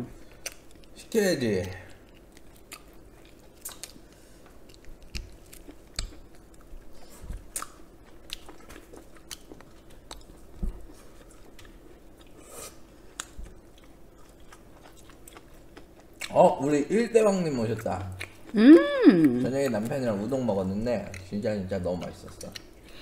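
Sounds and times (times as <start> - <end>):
chewing and biting food: 0.2 - 16.7, 17.6 - 18.6, 19.3 - 23.0.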